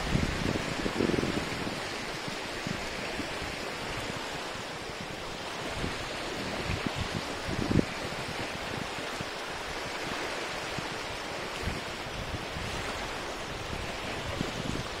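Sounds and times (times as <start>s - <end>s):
wave splashes: 0.0s - 15.0s
waves washing onto beach: 0.0s - 15.0s.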